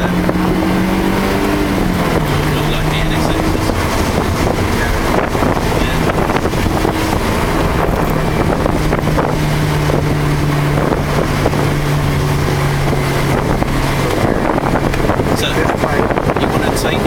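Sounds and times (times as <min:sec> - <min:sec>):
car engine under steady throttle: 0:00.0 - 0:17.0
road and wind noise: 0:00.0 - 0:17.0.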